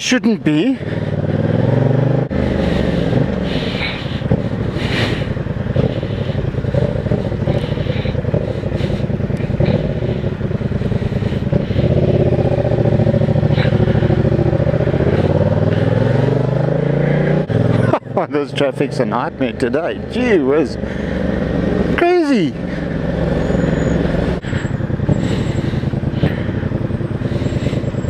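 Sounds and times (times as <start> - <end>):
motorcycle engine revving: 0.5 - 28.0.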